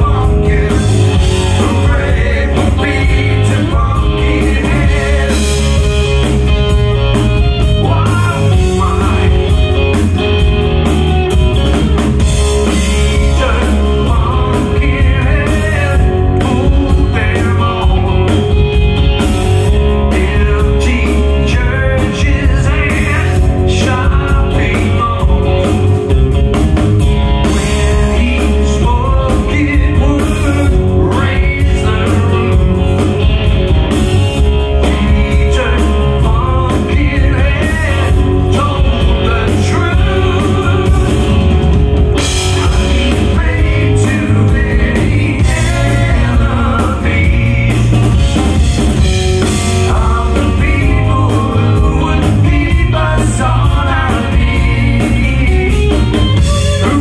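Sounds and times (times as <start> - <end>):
man singing lead: 0.0 - 10.6, 11.2 - 26.2, 27.4 - 33.7, 34.3 - 57.0
bass guitar: 0.0 - 57.0
drum kit: 0.0 - 57.0
electric guitar: 0.0 - 57.0.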